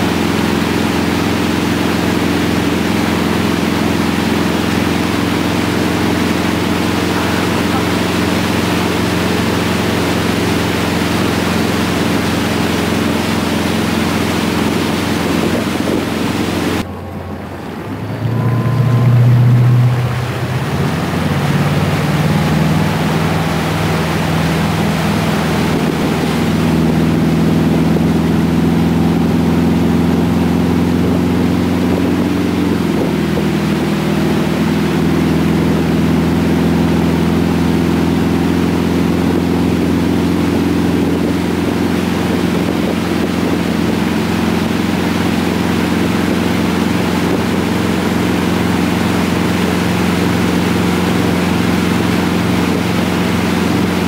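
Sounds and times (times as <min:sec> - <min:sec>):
motorboat engine droning: 0:00.0 - 0:54.0
water rushing: 0:00.0 - 0:54.0
wind on microphone: 0:00.0 - 0:54.0.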